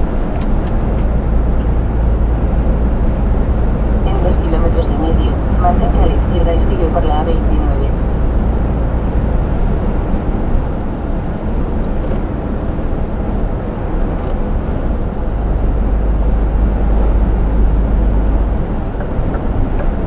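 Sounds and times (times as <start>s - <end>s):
road and wind noise: 0.0s - 20.0s
truck engine rumble: 0.0s - 20.0s.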